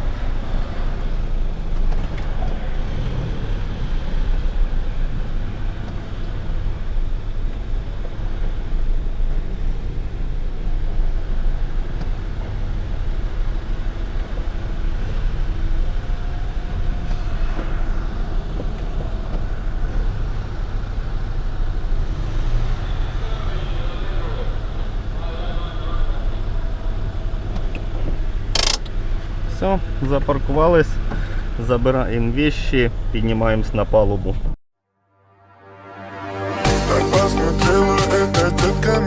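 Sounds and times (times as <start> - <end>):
road noise: 0.0 - 34.6, 35.2 - 39.0.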